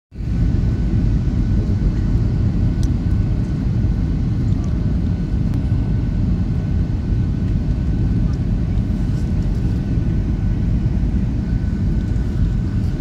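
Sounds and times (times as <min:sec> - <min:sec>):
deep cabin rumble: 0:00.2 - 0:13.0.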